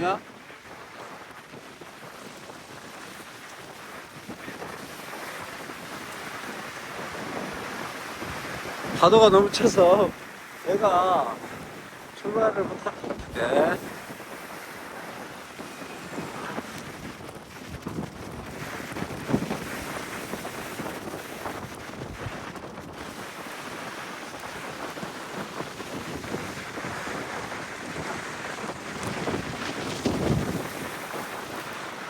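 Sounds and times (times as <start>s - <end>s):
heavy surf: 0.0s - 32.0s
wind buffeting microphone: 0.0s - 32.0s.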